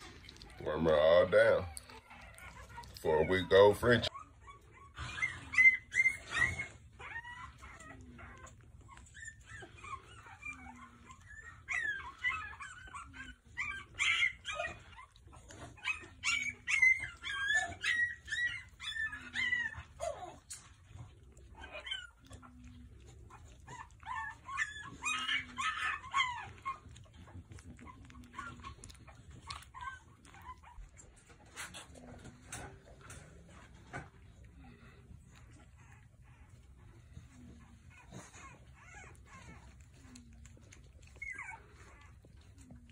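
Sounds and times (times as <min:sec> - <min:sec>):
puppies whimpering and squealing: 0:00.0 - 0:42.9.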